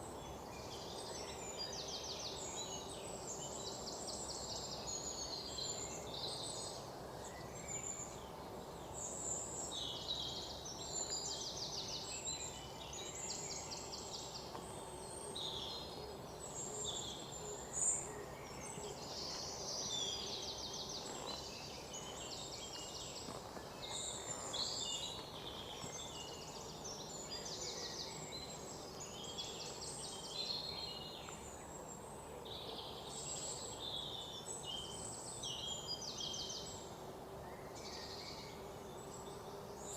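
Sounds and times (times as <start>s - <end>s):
background hiss: 0.0s - 39.9s
small birds chirping: 0.0s - 39.9s.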